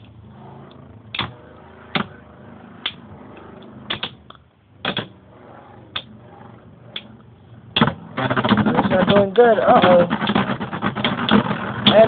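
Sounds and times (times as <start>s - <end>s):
spinning tops whirring: 0.0s - 12.0s.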